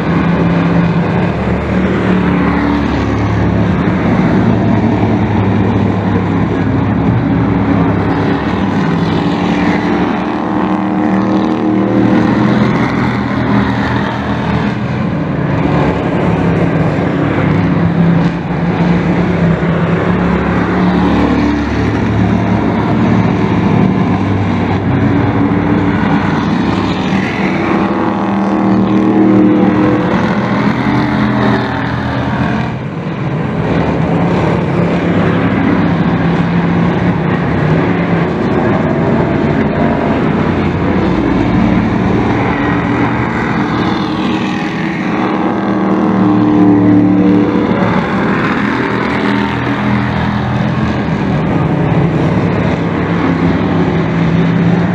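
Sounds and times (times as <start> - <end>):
racing truck engines droning: 0.0 - 54.9.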